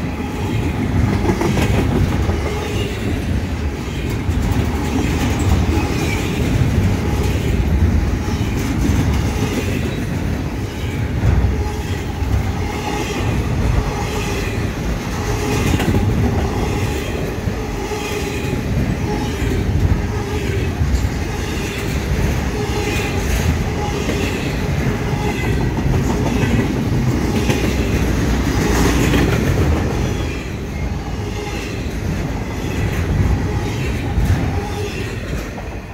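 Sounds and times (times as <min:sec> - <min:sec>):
freight train rolling past: 0:00.0 - 0:35.9.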